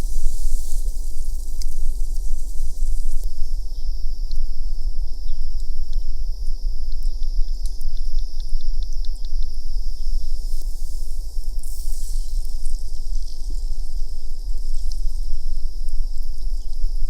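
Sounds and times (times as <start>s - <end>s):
small ticks: 0.0s - 3.3s, 5.6s - 16.9s
high insect drone: 0.0s - 17.0s.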